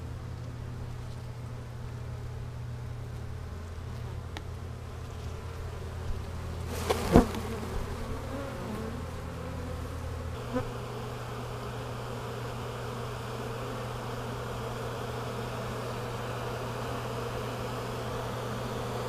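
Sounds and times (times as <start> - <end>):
bees buzzing: 1.0 - 19.0.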